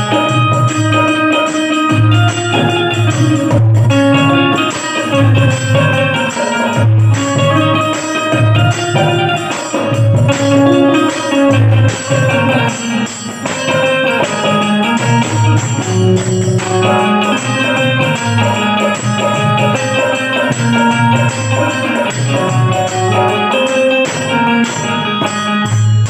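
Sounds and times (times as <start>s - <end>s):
banjo playing fast melody: 0.0s - 26.0s
percussion beat: 0.0s - 26.0s.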